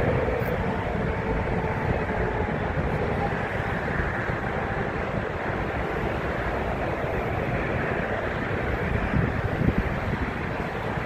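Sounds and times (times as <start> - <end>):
jet engine noise: 0.0 - 11.0
wind on microphone: 0.0 - 11.0.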